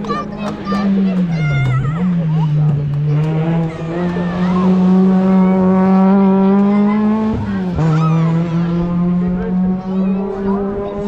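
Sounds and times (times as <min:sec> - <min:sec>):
racing car engine accelerating: 0:00.0 - 0:11.0.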